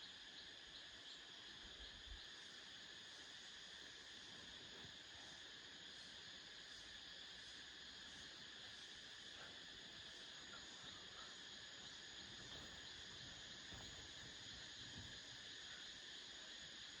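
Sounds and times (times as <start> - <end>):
faint insect chorus: 0.0 - 17.0.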